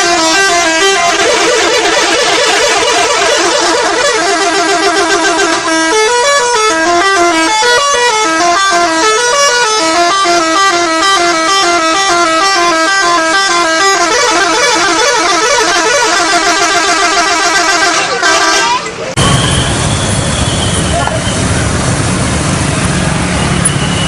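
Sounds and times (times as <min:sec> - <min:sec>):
bus musical horn playing a tune: 0:00.0 - 0:19.6.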